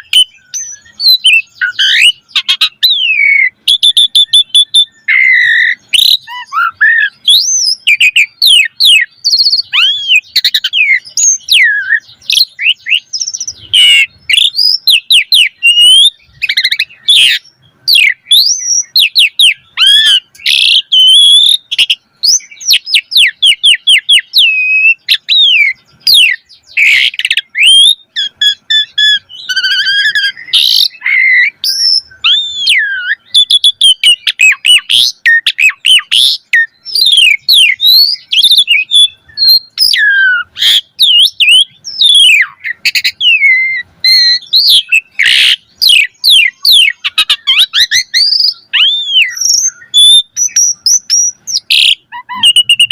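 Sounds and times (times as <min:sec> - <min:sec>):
starling singing with whistles and trills: 0:00.0 - 0:52.9.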